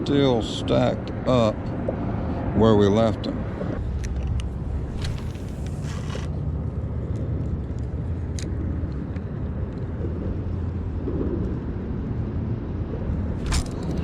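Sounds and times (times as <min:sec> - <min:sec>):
road traffic rumble on bridge: 0:00.0 - 0:14.0.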